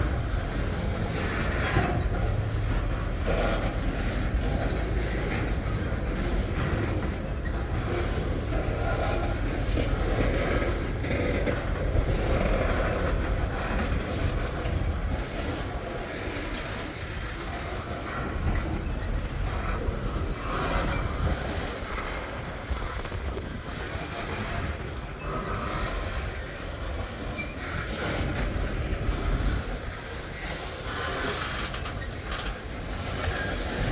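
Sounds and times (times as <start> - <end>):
freight train rumbling on rails: 0.0 - 33.9.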